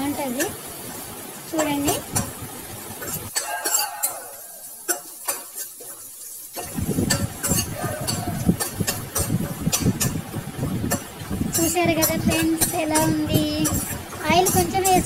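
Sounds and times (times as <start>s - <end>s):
faint frying sizzle: 0.0s - 15.0s
spatula scraping in a pan: 1.6s - 10.2s, 10.8s - 15.0s.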